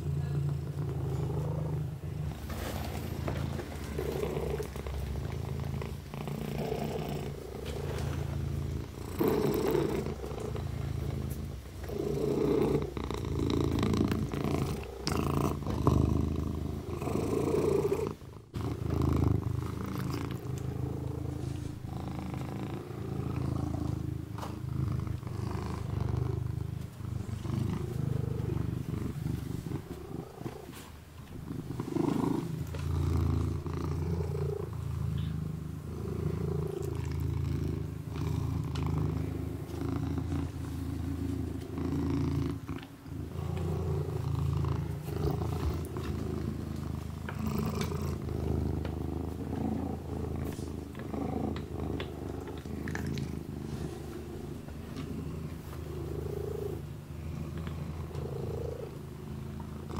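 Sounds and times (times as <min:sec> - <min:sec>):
kitten purring: 0:00.0 - 0:59.9.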